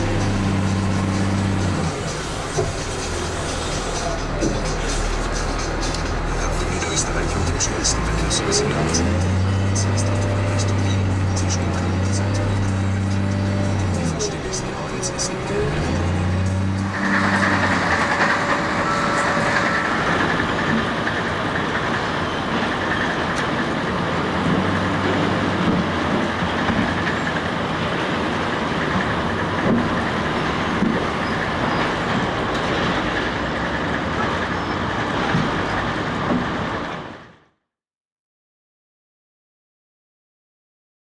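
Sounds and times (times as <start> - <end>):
heavy diesel machinery rumbling: 0.0 - 37.6.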